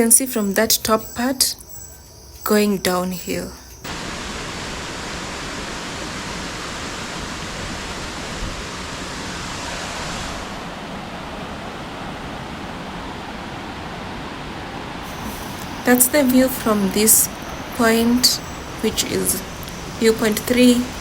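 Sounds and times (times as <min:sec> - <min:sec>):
waterfall rushing over rocks: 0:03.9 - 0:21.0.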